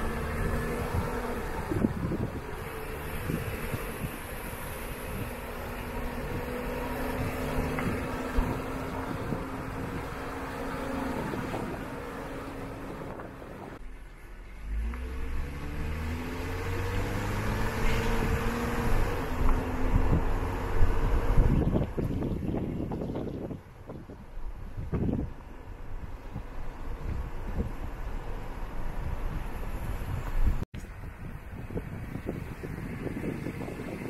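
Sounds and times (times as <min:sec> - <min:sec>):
wind noise: 0:00.0 - 0:13.8, 0:15.4 - 0:34.0
vehicle engine running: 0:00.0 - 0:34.0.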